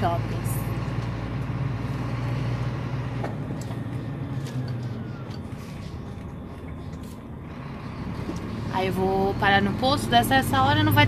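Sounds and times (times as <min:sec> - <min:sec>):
road noise: 0:00.0 - 0:11.0
truck engine drone: 0:00.0 - 0:11.0.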